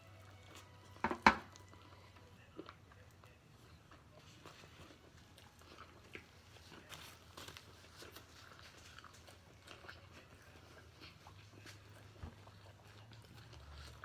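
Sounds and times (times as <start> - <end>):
chewing with wet smacks: 0.0 - 14.0.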